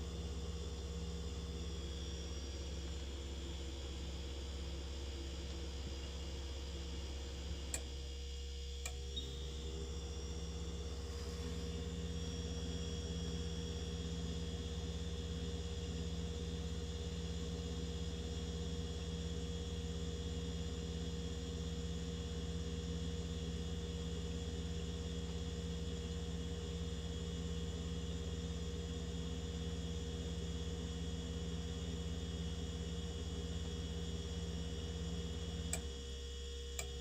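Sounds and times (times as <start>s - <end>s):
refrigerator compressor humming: 0.0s - 37.0s.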